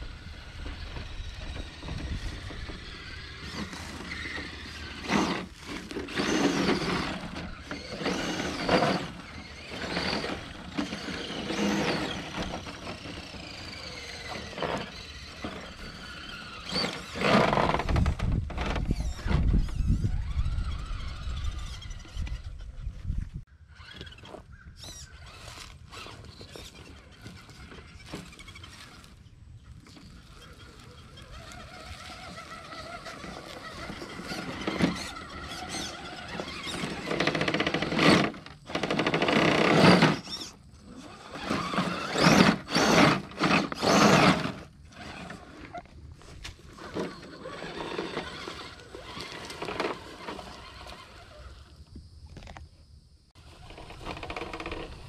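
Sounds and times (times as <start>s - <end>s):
motor throttle bursts: 0.0s - 22.7s, 23.7s - 51.7s, 53.4s - 55.0s
toy car electric motor whining: 0.0s - 23.0s, 23.6s - 52.6s, 53.4s - 55.0s.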